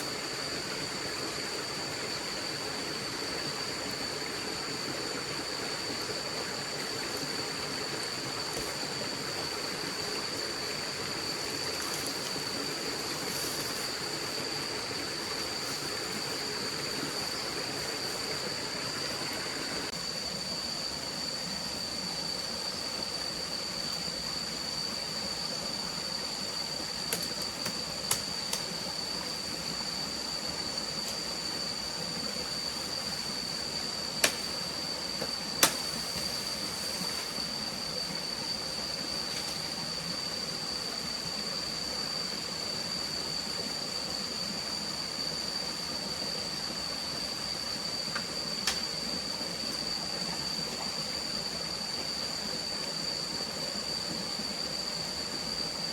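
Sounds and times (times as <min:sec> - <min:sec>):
constant high thin tone: 0:00.0 - 0:55.9
forest stream rushing: 0:00.0 - 0:55.9.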